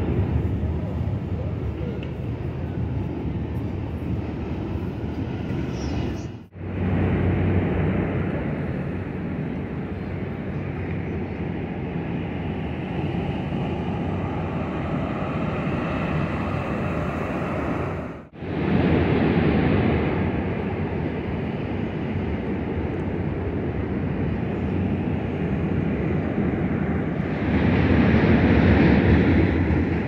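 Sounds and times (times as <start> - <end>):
continuous city rumble: 0.0 - 30.0.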